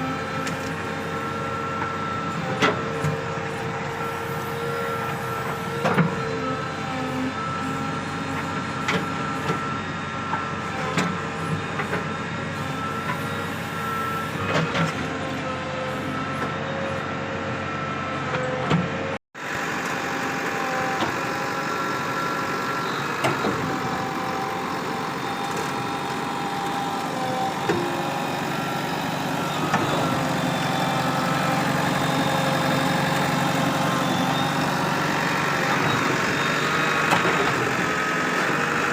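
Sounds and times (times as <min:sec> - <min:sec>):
diesel machinery engine running: 0:00.0 - 0:38.9.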